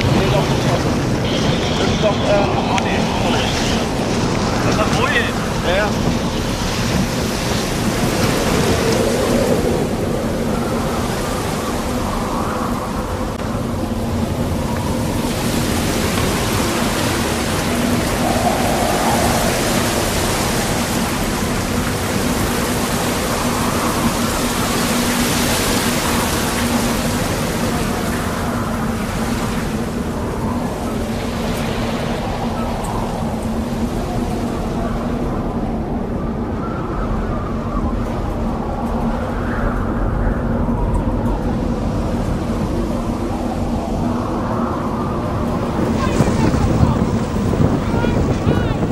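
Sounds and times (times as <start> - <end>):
choppy water: 0.0 - 48.9
strong wind on microphone: 0.0 - 48.9.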